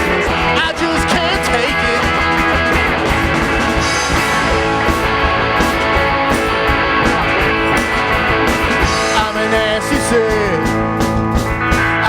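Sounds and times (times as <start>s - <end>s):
bass guitar: 0.0s - 12.0s
electric guitars strumming: 0.0s - 12.0s
steady drum beat: 0.0s - 12.0s.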